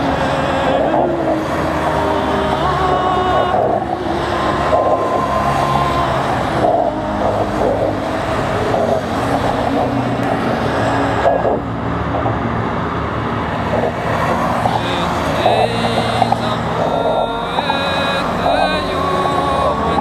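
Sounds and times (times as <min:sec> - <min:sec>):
truck engines rumbling: 0:00.0 - 0:20.0
tyre and road noise: 0:00.0 - 0:20.0.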